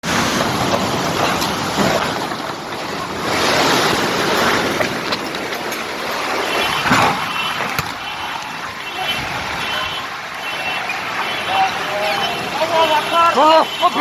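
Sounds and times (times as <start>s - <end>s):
strong wind: 0.0s - 12.7s
heavy storm rain: 0.0s - 14.0s.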